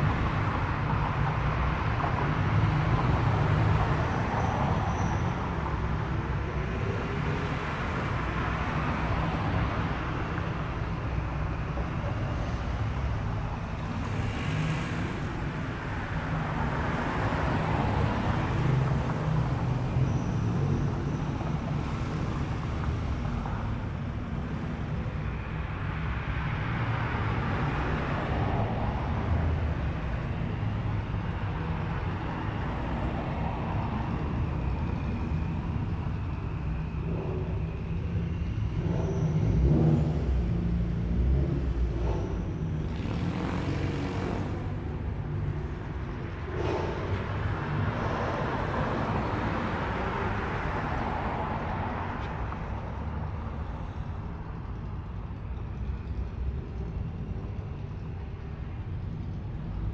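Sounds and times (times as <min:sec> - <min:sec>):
cars driving slowly past: 0:00.0 - 0:59.9.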